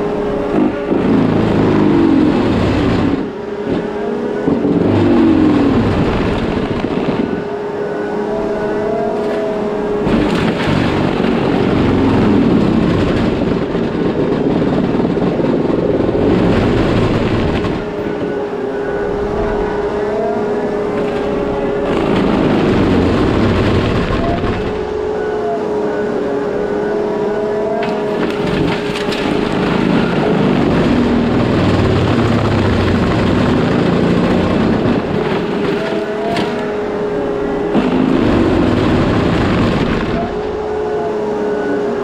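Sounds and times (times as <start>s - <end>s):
mulching head high whine: 0.0s - 42.0s
skid steer engine and hydraulics: 0.0s - 42.0s.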